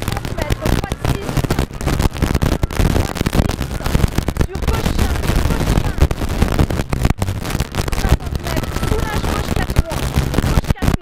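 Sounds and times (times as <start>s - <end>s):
sharp crackling: 0.0s - 11.0s.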